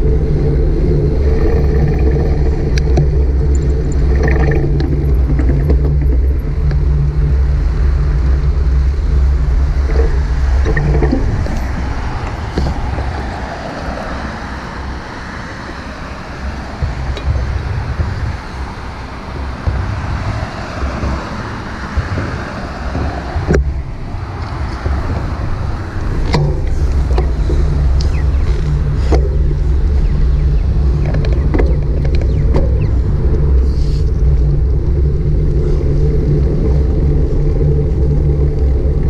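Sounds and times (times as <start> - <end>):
passing car traffic: 0.0 - 39.0
road noise: 0.0 - 39.0
wind rumbling on microphone: 0.0 - 39.0.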